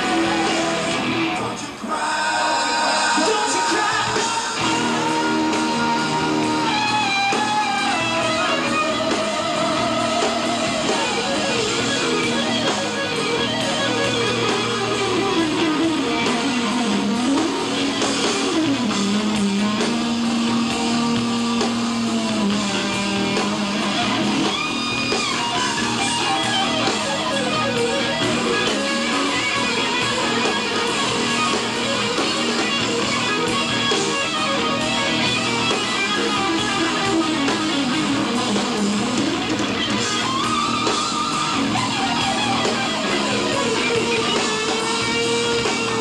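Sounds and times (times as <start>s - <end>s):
electric lead guitar melody: 0.0s - 46.0s
rock band backing: 0.0s - 46.0s.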